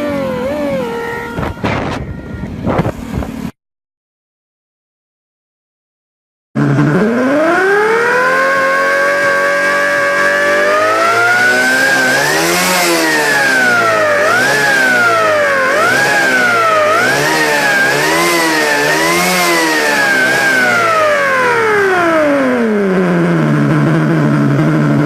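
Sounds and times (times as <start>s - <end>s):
simulated motorcycle engine revving: 0.0s - 3.5s, 6.6s - 25.0s.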